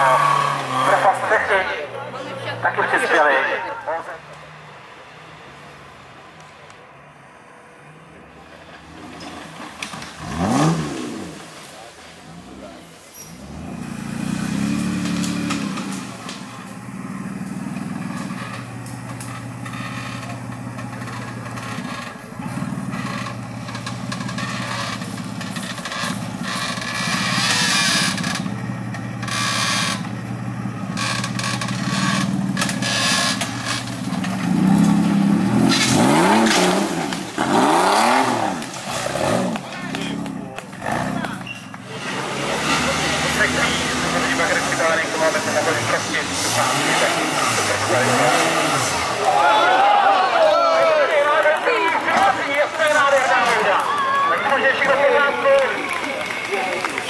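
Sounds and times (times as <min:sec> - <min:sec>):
engine running under load: 0:00.0 - 0:57.0.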